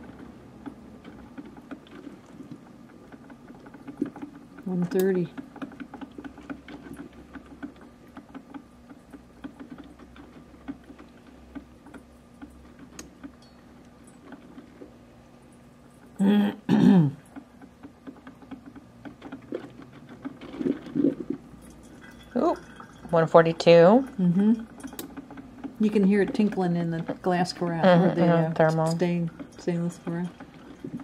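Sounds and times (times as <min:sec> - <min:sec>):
coffee maker water sputtering and dripping: 0:00.0 - 0:31.0
low steady hum: 0:00.0 - 0:31.0.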